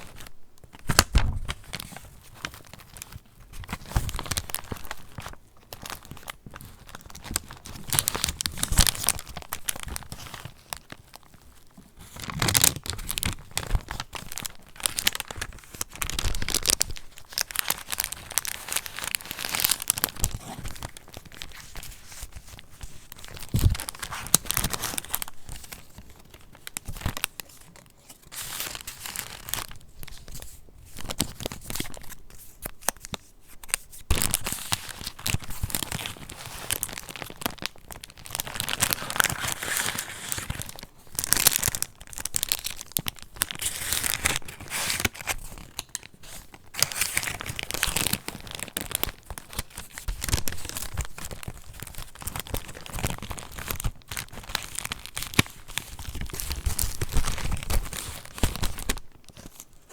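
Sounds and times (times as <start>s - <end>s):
paper pages crinkling: 0.0s - 59.9s.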